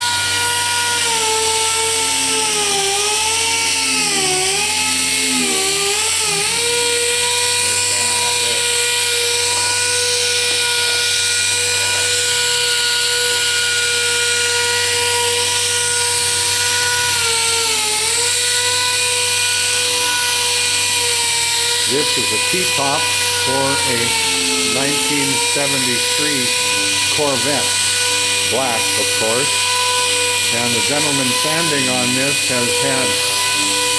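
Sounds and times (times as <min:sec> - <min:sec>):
sander whining: 0:00.0 - 0:33.9.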